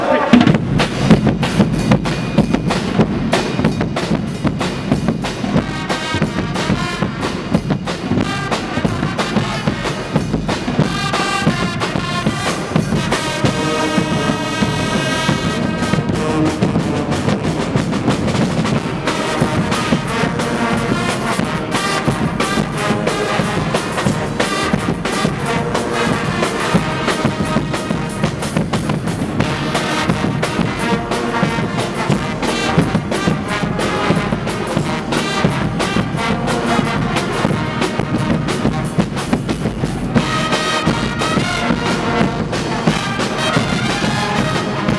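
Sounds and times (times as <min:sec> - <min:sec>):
brass band playing: 0:00.0 - 0:44.9
drums and cymbals beat: 0:00.0 - 0:44.9.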